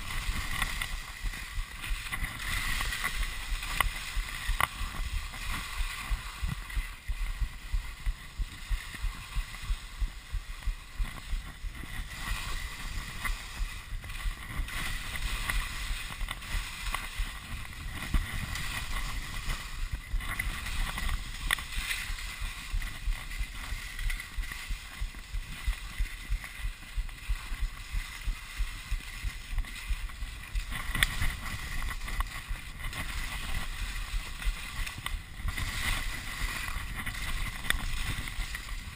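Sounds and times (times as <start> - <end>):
skis scraping over snow: 0.0 - 38.9
wind on microphone: 0.0 - 38.9.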